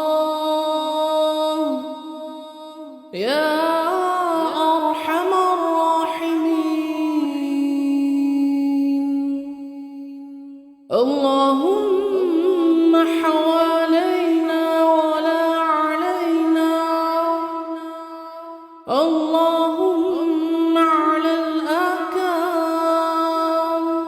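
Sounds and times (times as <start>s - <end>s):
solo voice chanting: 0.0s - 24.0s.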